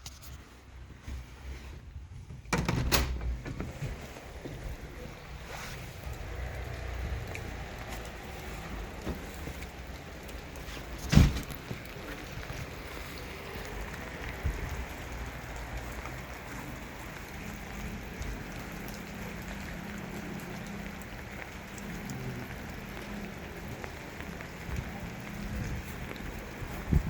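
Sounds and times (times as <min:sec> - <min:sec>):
steady rain falling: 0:02.6 - 0:27.0.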